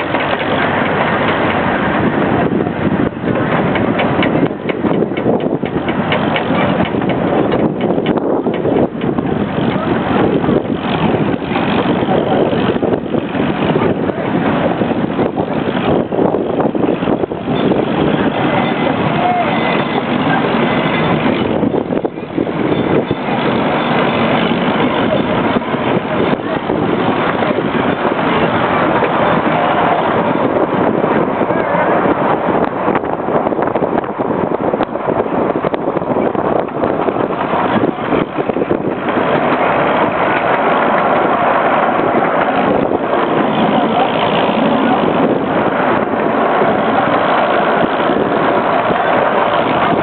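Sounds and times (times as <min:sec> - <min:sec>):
miniature train running: 0:00.0 - 0:50.0
wind on microphone: 0:00.0 - 0:50.0.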